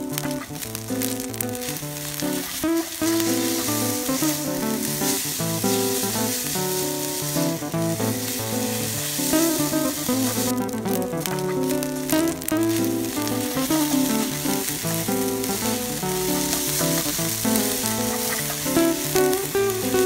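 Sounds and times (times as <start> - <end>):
noodles and pork frying: 0.0 - 20.0.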